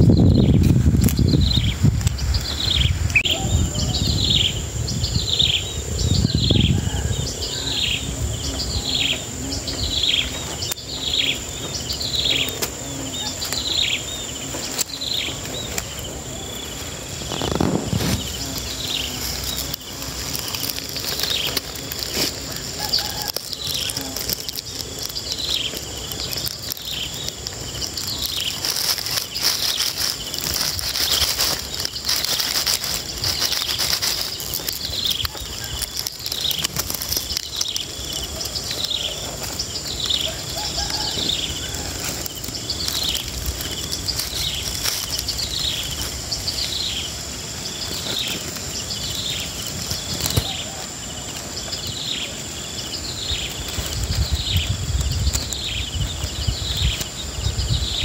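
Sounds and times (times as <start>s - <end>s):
bird chirping: 0.0s - 58.0s
high-pitched insect drone: 0.0s - 58.0s
leaves and grass rustling: 0.0s - 58.0s.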